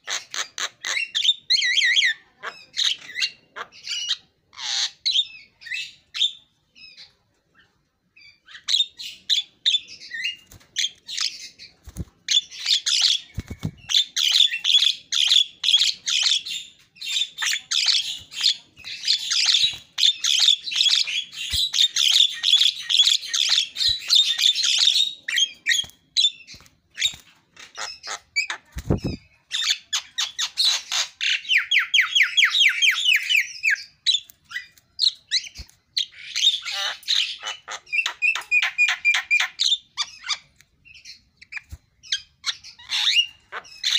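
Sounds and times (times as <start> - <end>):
myna bird chattering: 8.5 - 43.9.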